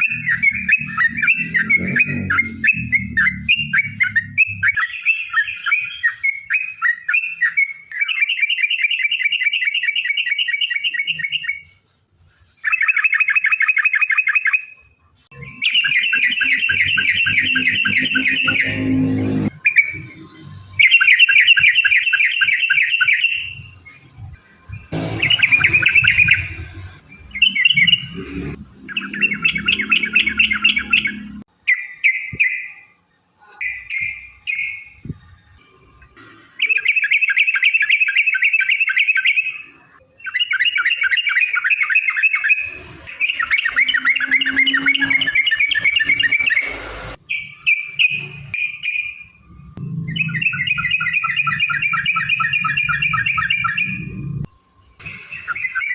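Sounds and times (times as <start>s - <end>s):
bulbul song chattering: 0.0s - 11.7s, 12.6s - 32.9s, 36.4s - 55.9s.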